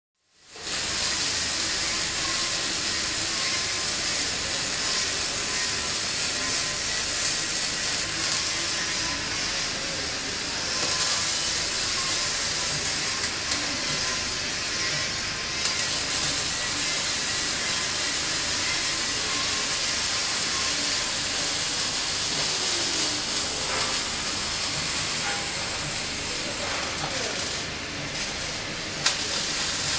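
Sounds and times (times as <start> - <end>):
welding arc crackling: 0.4 - 29.9.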